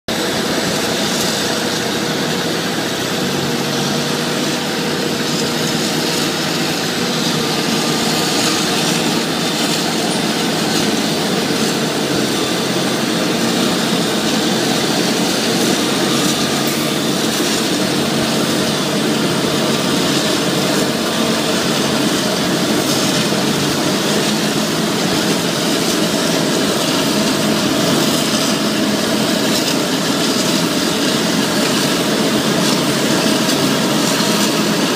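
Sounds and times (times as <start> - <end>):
forage harvester machine drone: 0.1 - 34.9
hissing rush of blown crop: 0.2 - 34.9.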